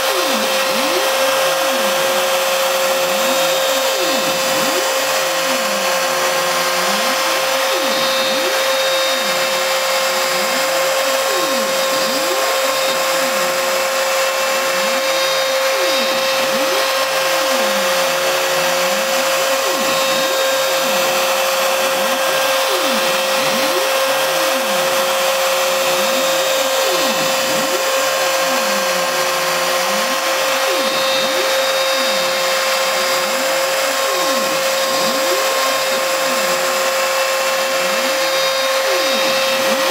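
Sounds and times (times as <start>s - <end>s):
router bit cutting wood: 0.0s - 39.9s
wood router whine: 0.0s - 39.9s.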